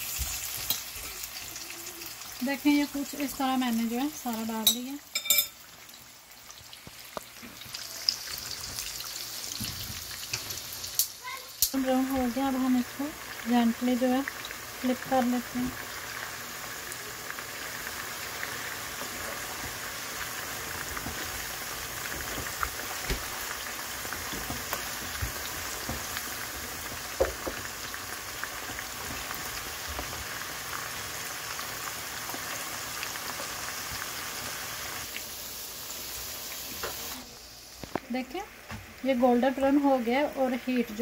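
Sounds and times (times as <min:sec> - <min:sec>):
chicken deep-frying in oil: 0:00.0 - 0:41.0.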